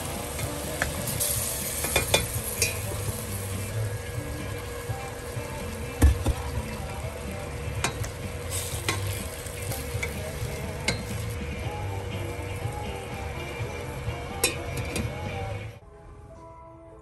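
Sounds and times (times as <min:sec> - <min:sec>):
food sizzling: 0:00.0 - 0:15.7.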